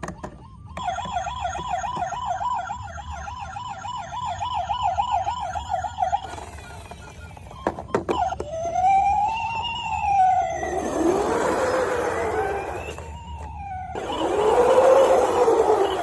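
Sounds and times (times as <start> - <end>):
slow wailing siren: 0.0 - 16.0
toy siren warbling fast: 0.0 - 16.0.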